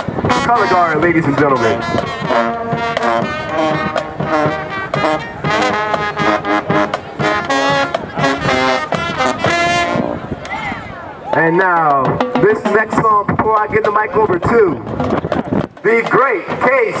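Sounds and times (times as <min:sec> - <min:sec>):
drums: 0:00.0 - 0:17.0
marching band brass: 0:00.0 - 0:17.0.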